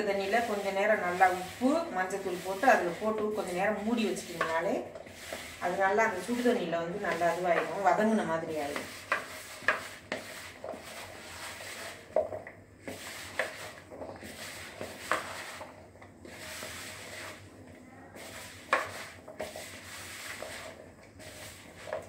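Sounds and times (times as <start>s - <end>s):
hands rubbing food in a bowl: 0.0s - 17.5s, 18.1s - 22.0s.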